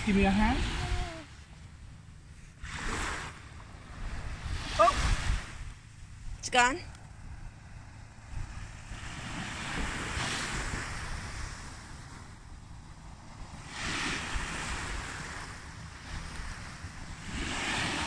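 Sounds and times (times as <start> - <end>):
small waves washing onto beach: 0.0 - 1.6, 2.3 - 18.0
wind rumbling on microphone: 0.0 - 18.0.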